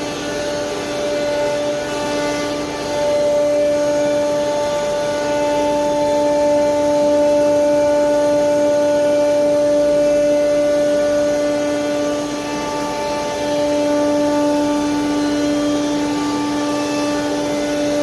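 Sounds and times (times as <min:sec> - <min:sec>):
router spindle whine: 0:00.0 - 0:18.0.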